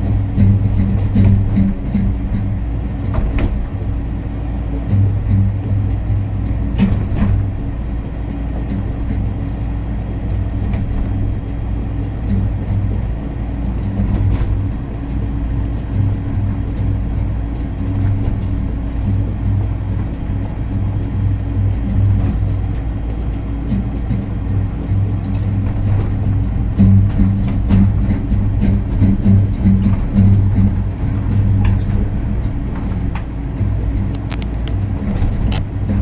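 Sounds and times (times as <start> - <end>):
suspended rail car rumbling: 0.0 - 36.0.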